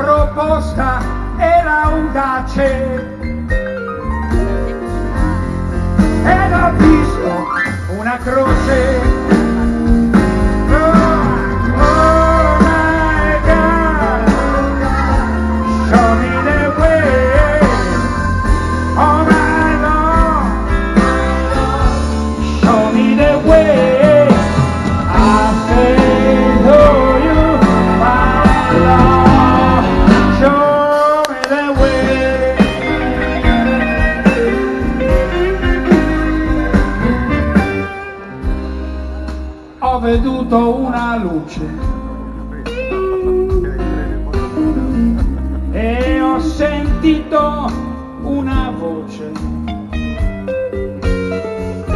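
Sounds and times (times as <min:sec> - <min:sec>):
live blues band playing: 0:00.0 - 0:51.9
steady bass: 0:00.0 - 0:51.9.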